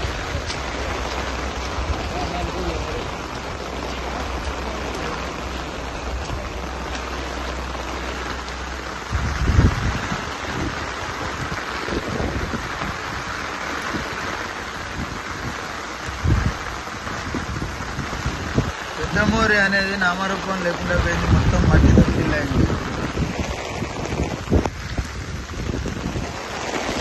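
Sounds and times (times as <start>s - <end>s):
wind buffeting on microphone: 0.0s - 19.6s, 20.7s - 27.0s
rain falling: 0.0s - 27.0s.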